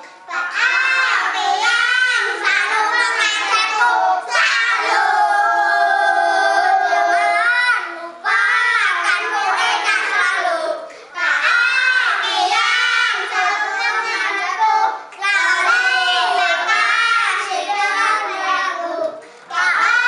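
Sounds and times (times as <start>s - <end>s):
children singing: 0.0s - 20.0s.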